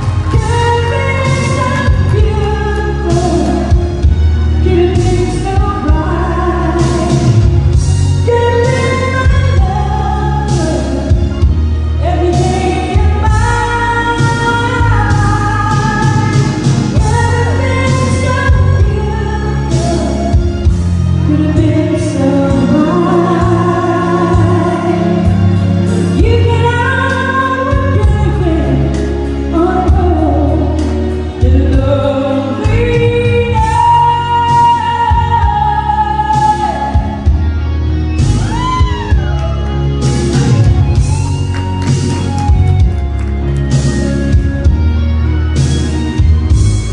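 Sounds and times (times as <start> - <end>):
band with bass and drums: 0.0 - 46.9
person singing through speakers: 0.0 - 46.9.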